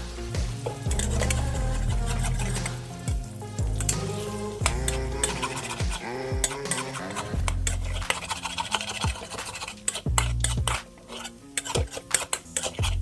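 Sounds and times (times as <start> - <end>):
bass-heavy background music: 0.0 - 13.0
food sizzling: 0.0 - 13.0
spatula scraping a pan: 0.0 - 13.0
metal clicking on pan: 0.6 - 2.9, 3.8 - 13.0.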